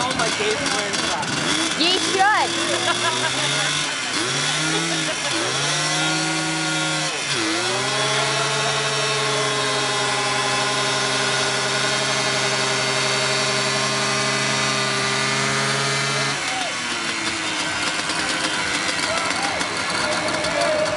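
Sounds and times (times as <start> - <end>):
atv engine revving: 0.0 - 20.9
tyres spinning: 0.0 - 20.9.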